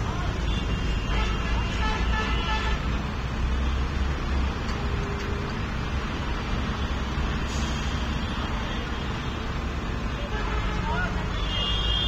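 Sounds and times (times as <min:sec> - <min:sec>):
heavy vehicle engines and traffic: 0:00.0 - 0:12.0.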